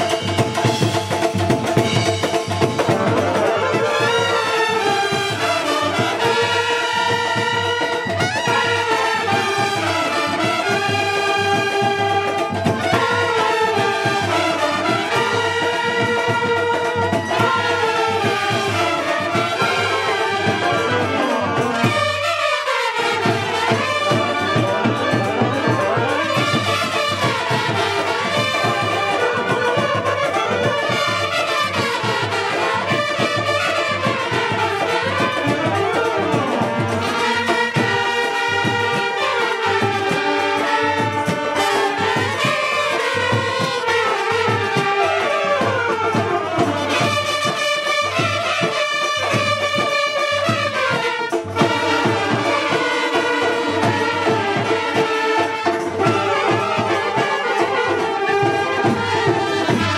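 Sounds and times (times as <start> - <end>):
brass band playing: 0.0 - 59.9
drum kit beat: 0.0 - 59.9.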